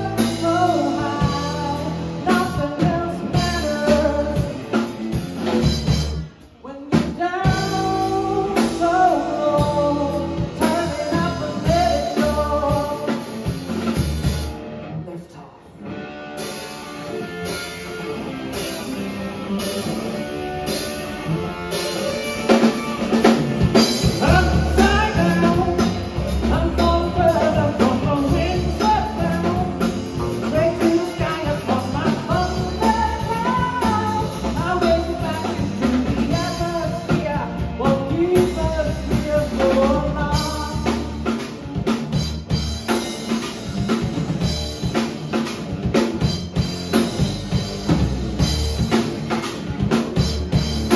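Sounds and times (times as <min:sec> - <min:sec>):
drum kit: 0:00.0 - 0:15.0, 0:15.8 - 0:50.9
bass guitar: 0:00.0 - 0:50.9
electric guitar: 0:00.0 - 0:50.9.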